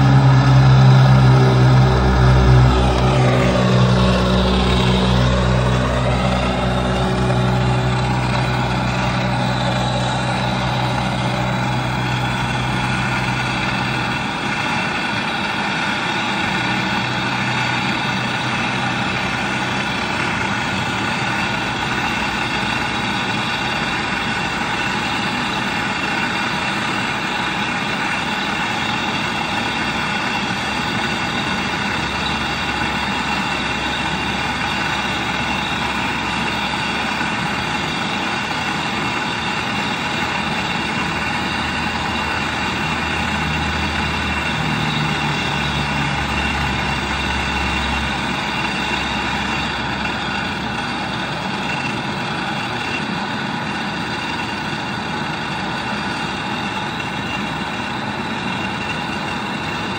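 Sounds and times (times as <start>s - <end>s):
machine motor humming: 0.0s - 51.9s.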